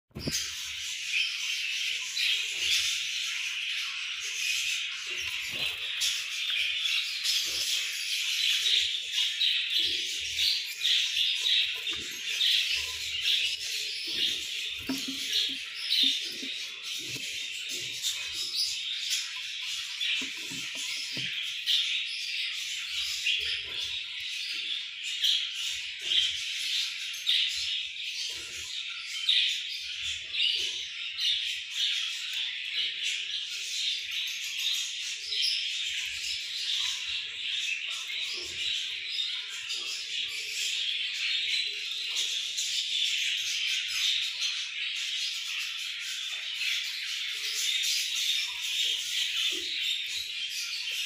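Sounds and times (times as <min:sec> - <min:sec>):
budgerigars chirping: 0:00.2 - 0:51.0.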